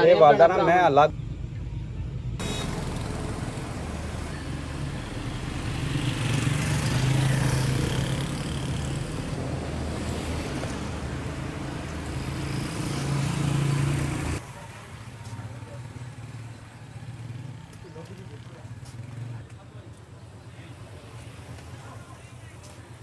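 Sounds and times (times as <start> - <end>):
traffic hum: 0.0 - 23.0
motorcycle engines passing: 2.3 - 23.0.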